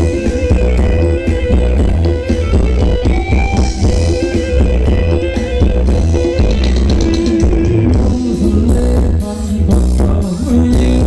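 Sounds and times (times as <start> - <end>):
drum kit beat: 0.0 - 11.0
guitar melody: 0.0 - 11.0
heavy bass: 0.0 - 11.0
live band dance music: 0.0 - 11.0.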